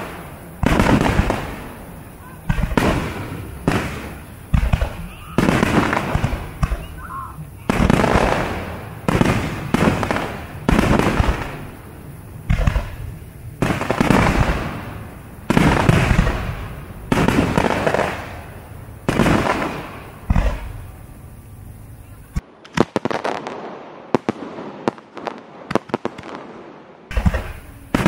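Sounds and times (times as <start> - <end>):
firework shells booming: 0.0 - 28.0.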